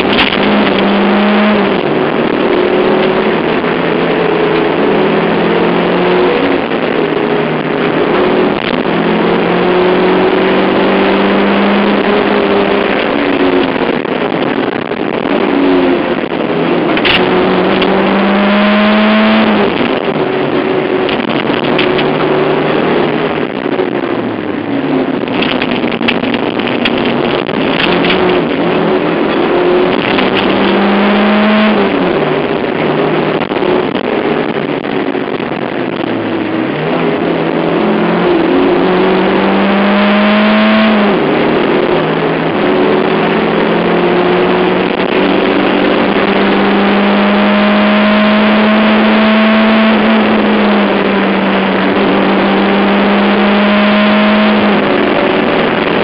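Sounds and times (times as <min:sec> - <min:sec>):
rally car engine revving: 0:00.0 - 0:56.0
road and tyre noise: 0:00.0 - 0:56.0.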